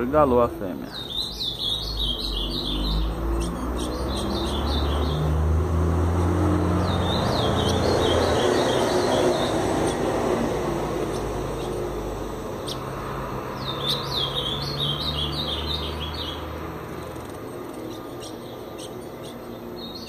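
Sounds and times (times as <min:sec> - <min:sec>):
birds giving high chirps: 0:00.0 - 0:20.0.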